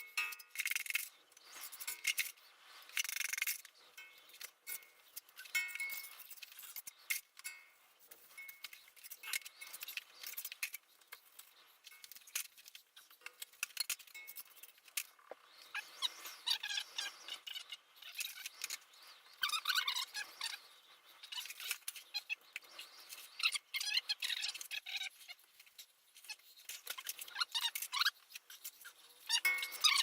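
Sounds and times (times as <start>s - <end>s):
hand tools scraping and clicking: 0.0s - 18.9s, 24.2s - 30.0s.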